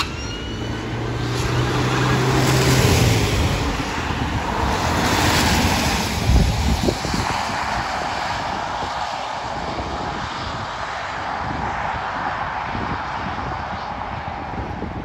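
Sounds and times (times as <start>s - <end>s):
police car passing at speed: 0.0s - 14.9s.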